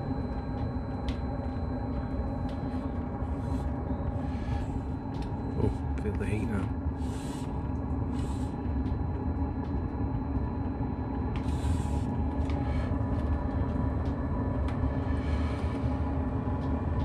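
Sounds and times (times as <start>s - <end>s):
air heater rumble and hum: 0.0s - 17.0s.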